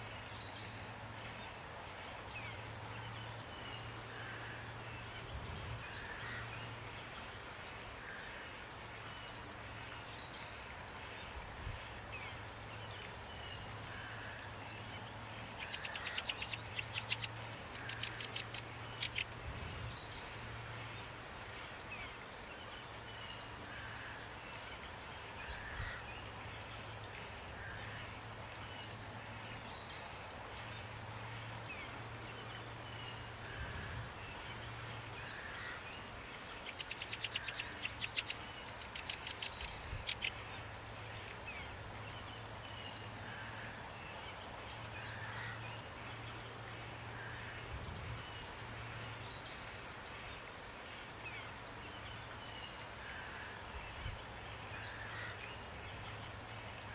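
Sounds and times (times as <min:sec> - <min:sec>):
songbirds chirping: 0:00.0 - 0:56.9
steady rain: 0:00.0 - 0:56.9.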